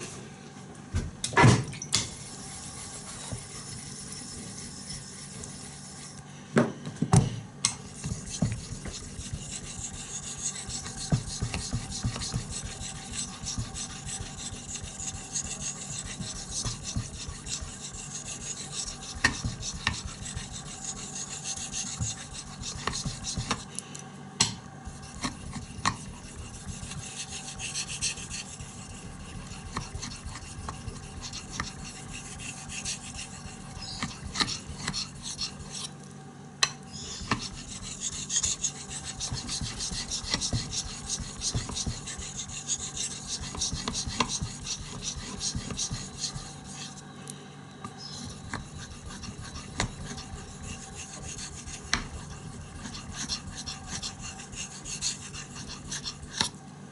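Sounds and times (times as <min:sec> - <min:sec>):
knife scraping on whetstone: 0:02.2 - 0:06.2, 0:07.8 - 0:23.7, 0:24.8 - 0:36.0, 0:36.9 - 0:47.1, 0:47.9 - 0:56.5.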